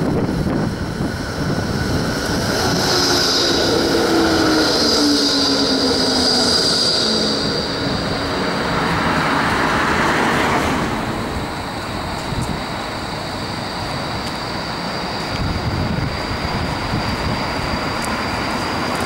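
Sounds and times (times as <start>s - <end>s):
tram wheels squealing on rails: 0.0s - 19.0s.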